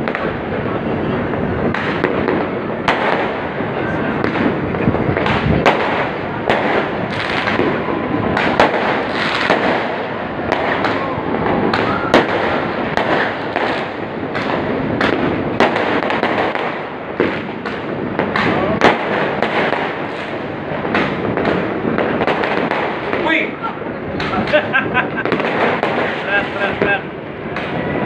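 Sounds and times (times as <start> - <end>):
fireworks crackling: 0.0 - 28.0
sharp firework bangs: 0.0 - 28.0.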